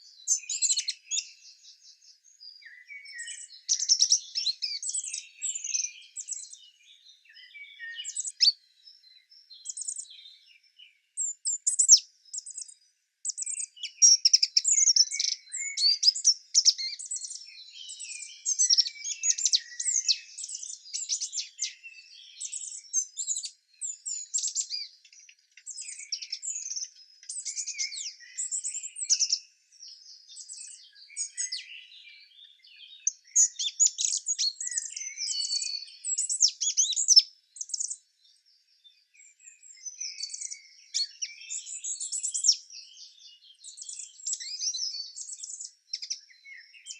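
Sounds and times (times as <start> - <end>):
songbirds chirping and trilling: 0.0 - 46.9.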